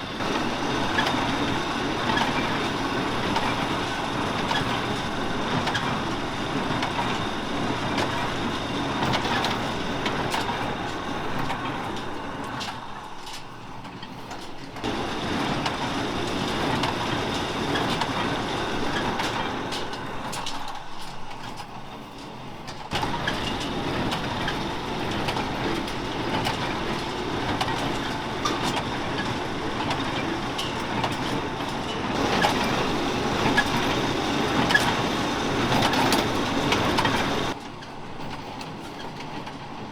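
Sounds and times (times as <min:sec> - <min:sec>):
tractor engine: 0:00.0 - 0:37.6.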